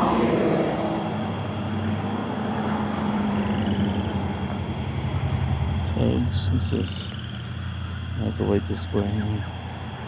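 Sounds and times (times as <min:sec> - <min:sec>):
vehicle engine running: 0:00.0 - 0:10.0
vehicle passing: 0:00.0 - 0:10.0.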